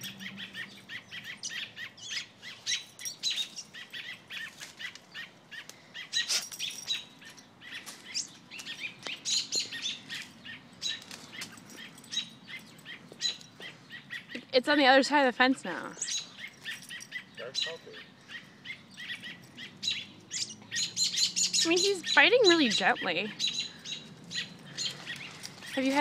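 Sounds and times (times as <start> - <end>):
small bird high chirps: 0.0 - 14.6, 16.0 - 26.0.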